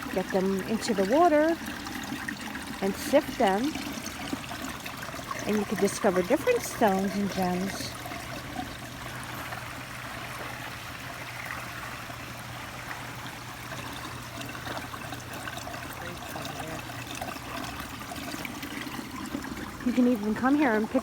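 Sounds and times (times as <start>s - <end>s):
water trickling along trough: 0.0s - 21.0s.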